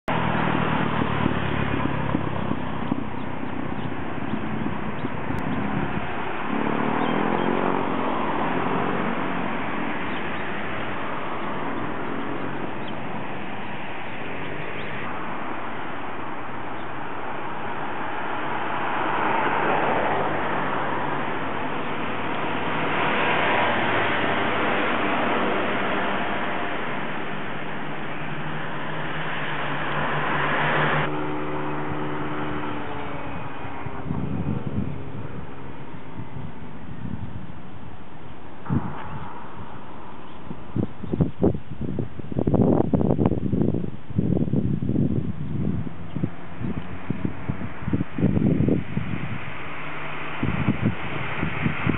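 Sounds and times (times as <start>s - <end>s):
engine hum: 0.0s - 51.9s
vehicles passing: 0.0s - 51.9s.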